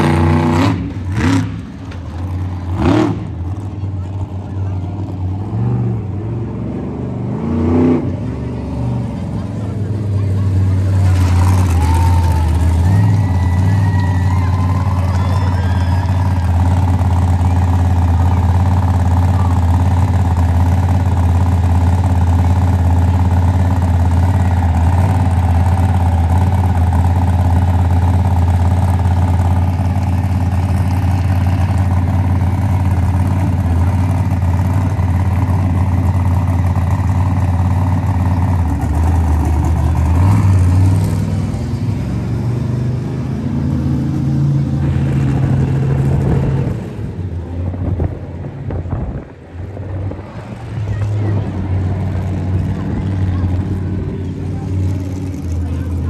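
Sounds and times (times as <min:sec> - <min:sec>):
monster truck engine running: 0:00.0 - 0:56.0.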